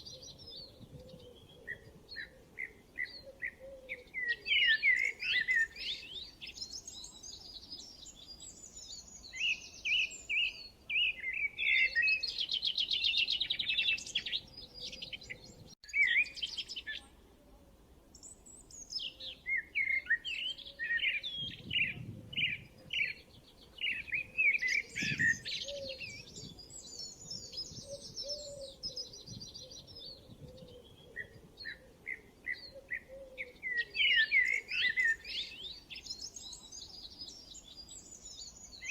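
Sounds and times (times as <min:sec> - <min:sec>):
songbirds singing and chirping: 0:00.0 - 0:17.3, 0:17.9 - 0:38.9.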